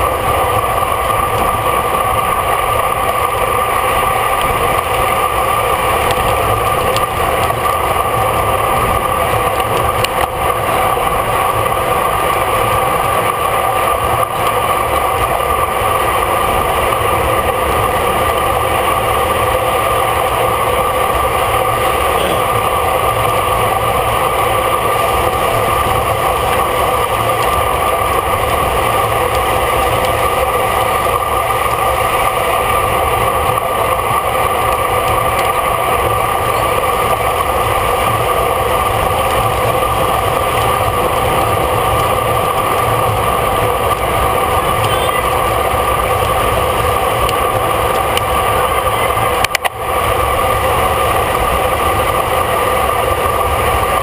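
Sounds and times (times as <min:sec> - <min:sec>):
bicycle road noise: 0:00.0 - 0:54.0.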